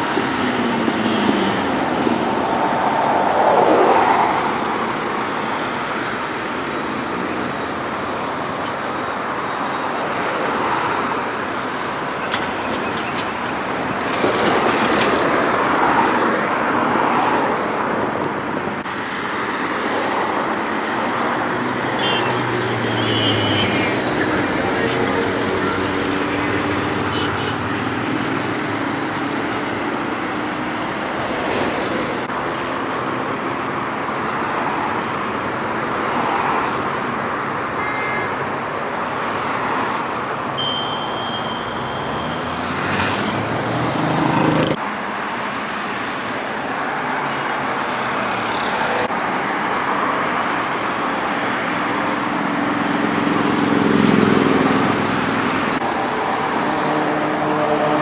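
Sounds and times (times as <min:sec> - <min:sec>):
vehicle engines passing: 0:00.0 - 0:08.7, 0:10.2 - 0:37.7, 0:39.0 - 0:58.0.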